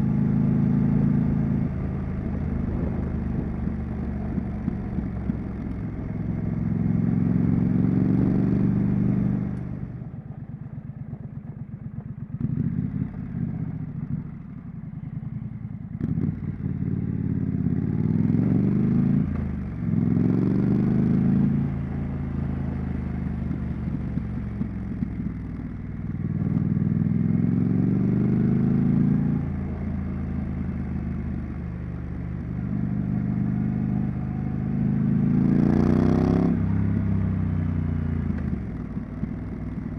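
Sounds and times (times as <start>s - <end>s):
motorcycle engine revving: 0.0s - 10.0s, 11.5s - 39.9s.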